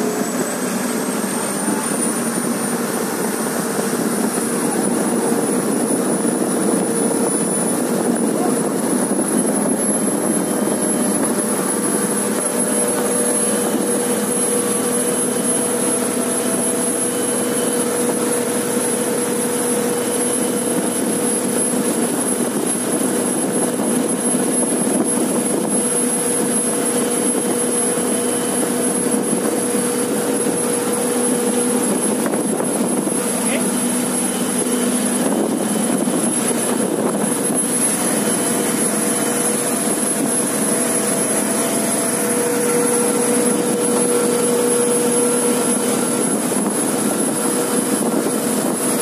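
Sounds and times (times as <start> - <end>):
churning wake rushing: 0.0 - 49.0
speedboat engine droning: 0.0 - 49.0
wind: 0.0 - 49.0.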